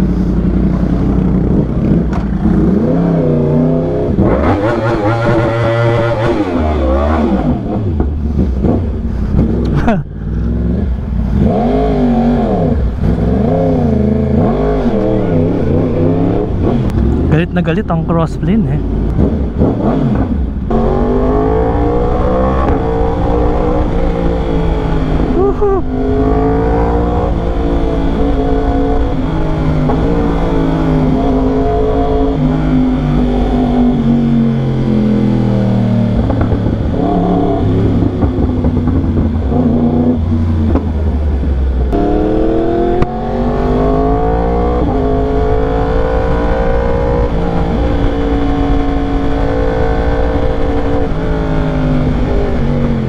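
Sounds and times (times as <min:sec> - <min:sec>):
motorcycle engine revving: 0:00.0 - 0:17.9, 0:18.8 - 0:53.0.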